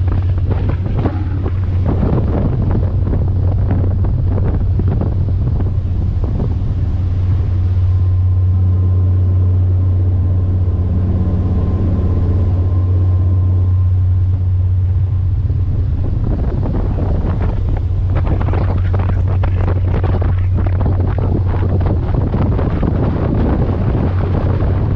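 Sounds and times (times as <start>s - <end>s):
ferry engines droning: 0.0s - 24.9s
wind buffeting microphone: 0.0s - 24.9s.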